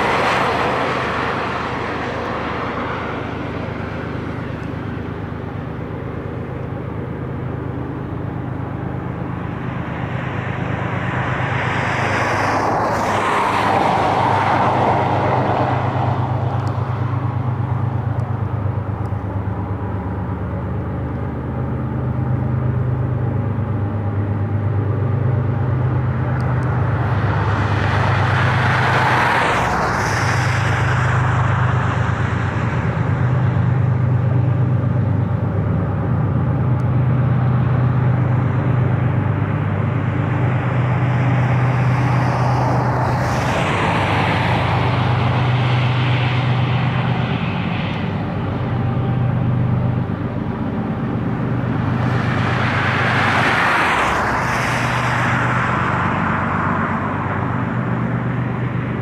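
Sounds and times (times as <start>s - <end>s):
distant diesel locomotives droning: 0.0s - 59.0s
road vehicles passing: 0.0s - 59.0s.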